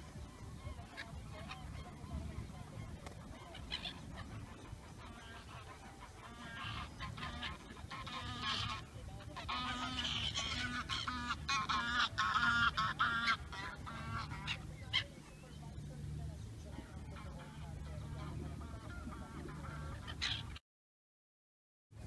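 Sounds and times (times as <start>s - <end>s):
gulls calling: 0.0s - 20.6s.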